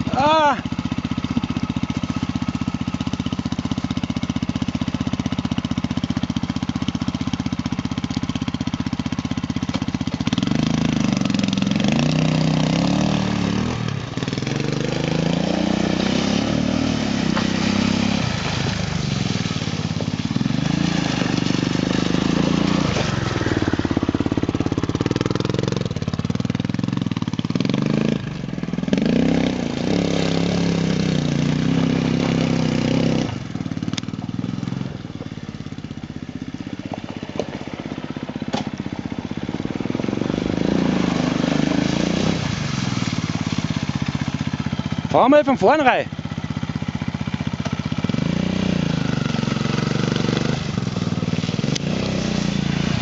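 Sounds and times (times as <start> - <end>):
quad engine idling and revving: 0.0 - 53.0.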